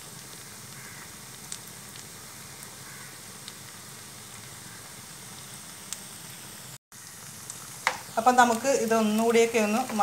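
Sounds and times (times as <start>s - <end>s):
batter frying in oil sizzling: 0.0s - 10.0s.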